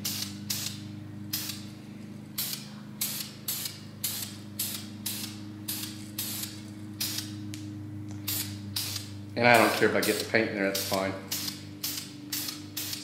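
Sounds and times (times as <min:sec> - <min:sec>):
aerosol spray can hissing: 0:00.0 - 0:01.6, 0:02.4 - 0:07.4, 0:08.2 - 0:13.0
steady low hum: 0:00.0 - 0:13.0.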